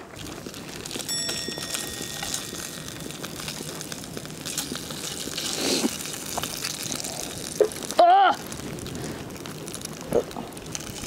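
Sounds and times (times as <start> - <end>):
meat sizzling in a pan: 0.1 - 11.0.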